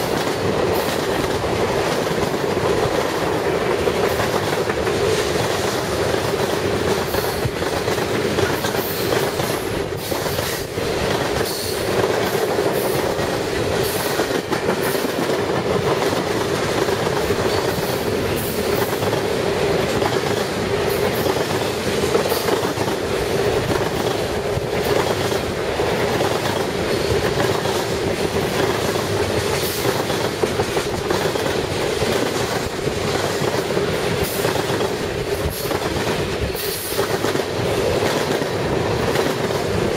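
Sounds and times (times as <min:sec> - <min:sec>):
train wheels clacking over rails: 0:00.0 - 0:39.9.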